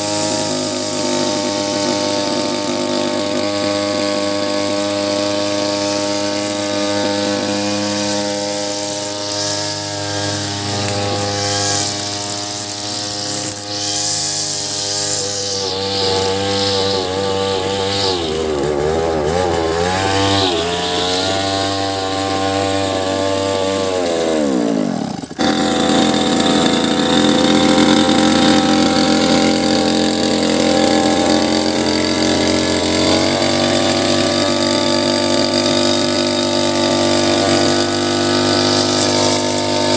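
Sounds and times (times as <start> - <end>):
small mower engine running: 0.0 - 39.9.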